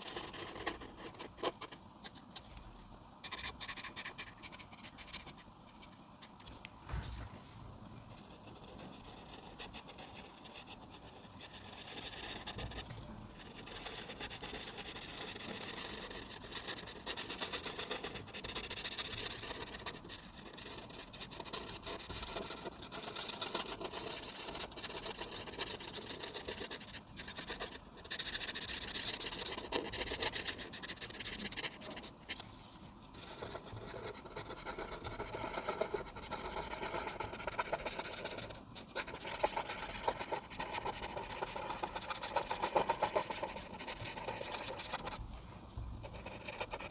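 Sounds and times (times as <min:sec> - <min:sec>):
pencil scratching on paper: 0:00.0 - 0:02.4, 0:03.2 - 0:05.9, 0:08.1 - 0:32.4, 0:33.1 - 0:45.2, 0:46.0 - 0:46.9.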